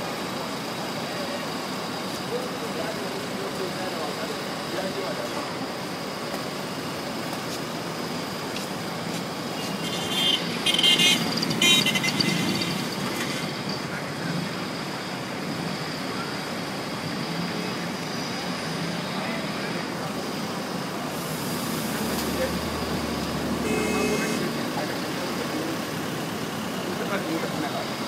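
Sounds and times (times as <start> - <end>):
street traffic noise: 0.0 - 28.0
voices: 0.1 - 28.0.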